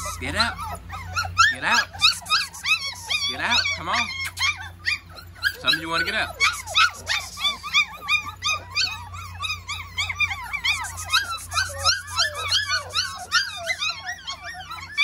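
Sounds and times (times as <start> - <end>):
puppies whining and yelping: 0.0 - 15.0.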